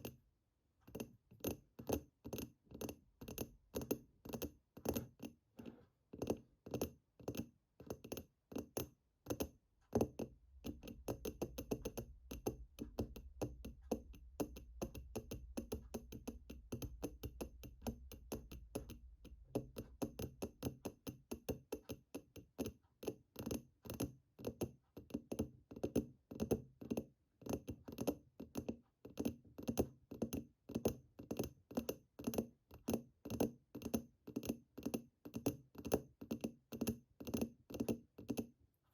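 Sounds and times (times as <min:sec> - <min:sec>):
fingers tapping on hard object: 0:00.8 - 0:38.6.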